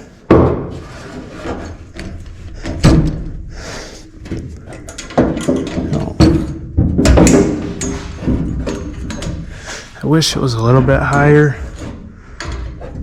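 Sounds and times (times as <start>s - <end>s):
metal knocks and clunks: 0.0s - 3.5s, 4.2s - 13.0s.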